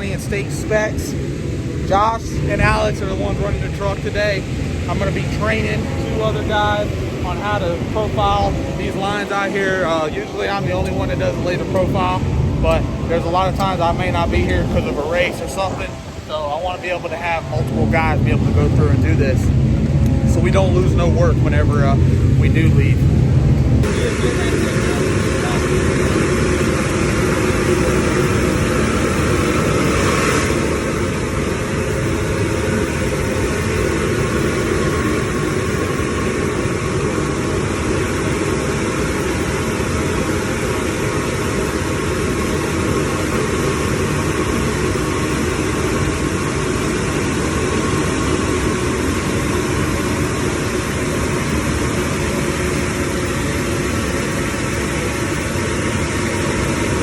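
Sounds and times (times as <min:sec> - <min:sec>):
vacuum truck machine drone: 0:00.0 - 0:57.0.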